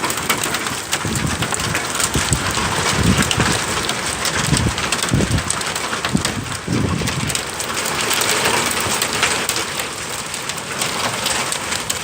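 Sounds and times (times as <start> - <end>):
hailstones ticking: 0.0 - 12.0
heavy rain hiss: 0.0 - 12.0.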